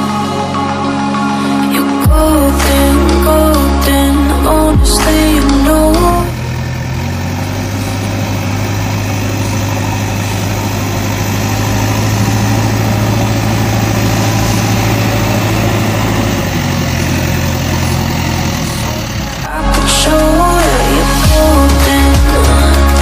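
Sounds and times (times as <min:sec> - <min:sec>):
toy wheel loader droning: 0:02.0 - 0:23.0.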